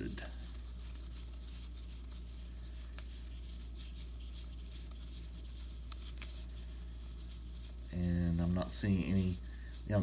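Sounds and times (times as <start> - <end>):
cards sliding and rubbing: 0.0 - 10.0.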